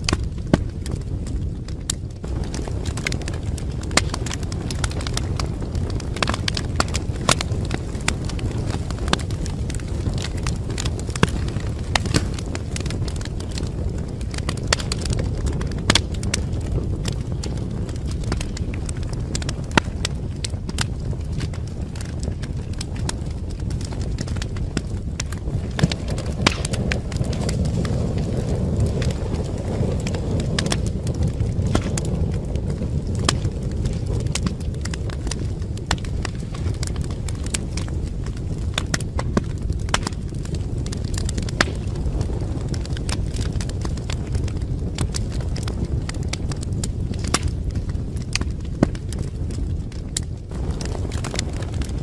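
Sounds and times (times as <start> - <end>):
flames rumbling: 0.0 - 52.0
wood crackling and popping: 0.0 - 52.0.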